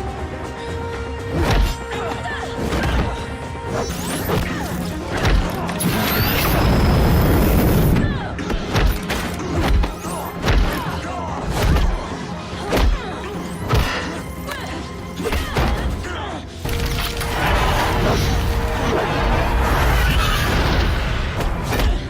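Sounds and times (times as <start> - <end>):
dramatic action music: 0.0 - 22.0.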